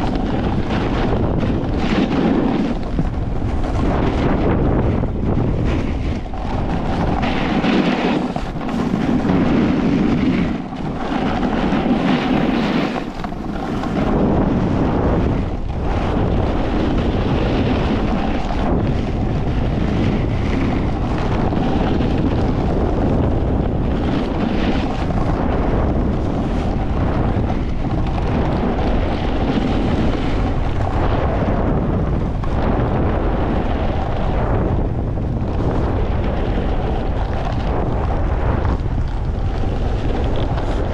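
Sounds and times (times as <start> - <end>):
snowboard scraping on snow: 0.0 - 40.9
wind rushing over microphone: 0.0 - 40.9.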